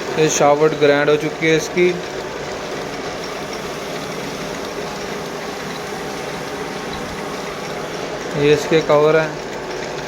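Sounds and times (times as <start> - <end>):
mechanical hiss-like drone: 0.0 - 9.0.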